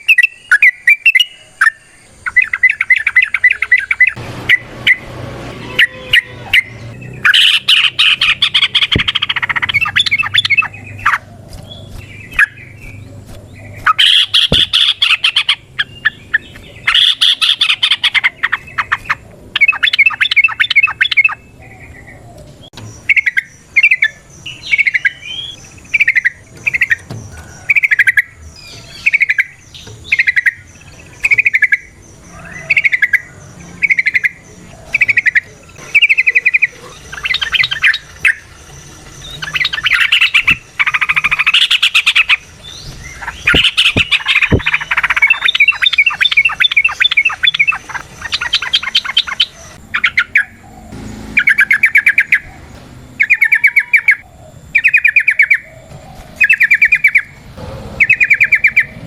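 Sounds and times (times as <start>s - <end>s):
bird calling: 0.0s - 59.0s.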